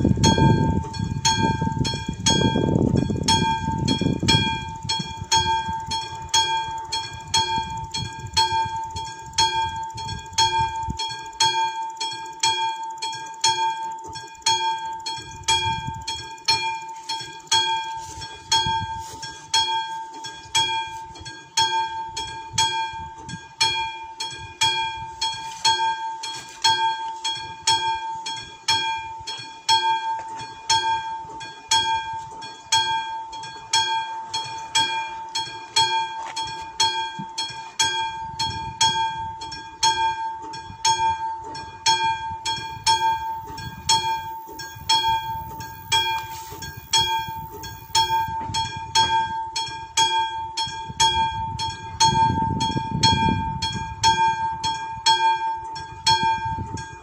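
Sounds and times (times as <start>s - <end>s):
level crossing bell ringing: 0.0s - 57.0s.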